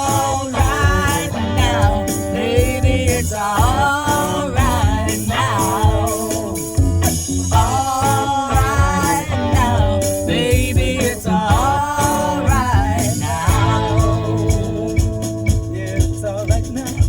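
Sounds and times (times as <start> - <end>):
bending lead guitar line: 0.0 - 17.0
drums: 0.0 - 17.0
rock music: 0.0 - 17.0.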